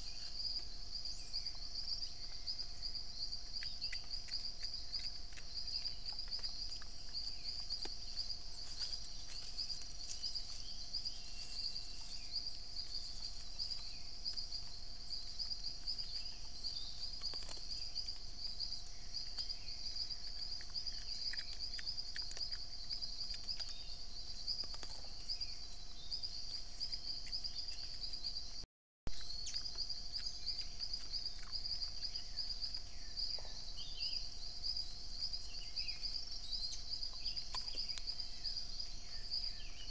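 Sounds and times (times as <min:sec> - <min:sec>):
faint bird chirps: 0:00.0 - 0:39.9
insect chorus buzzing: 0:00.0 - 0:39.9
low steady hum: 0:00.0 - 0:39.9
small ticks: 0:01.4 - 0:25.5, 0:26.2 - 0:28.3, 0:29.1 - 0:33.5, 0:36.0 - 0:39.5.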